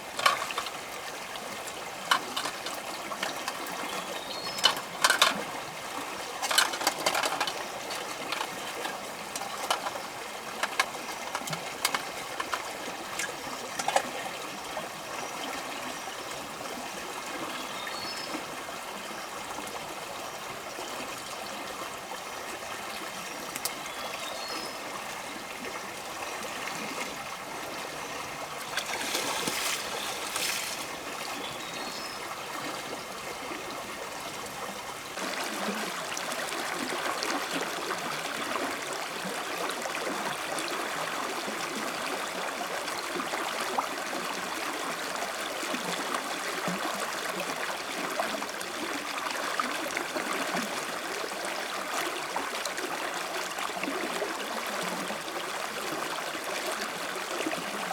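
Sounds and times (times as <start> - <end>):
stream trickling: 0.0 - 57.9.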